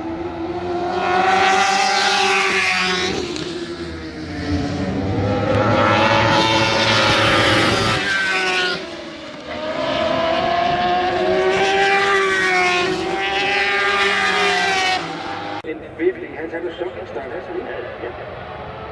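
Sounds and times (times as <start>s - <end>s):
superbike engines revving high: 0.0s - 15.6s.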